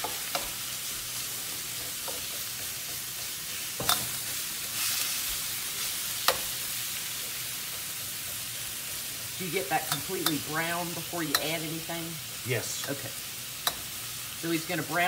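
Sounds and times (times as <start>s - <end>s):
meat and onions sizzling: 0.0s - 15.0s.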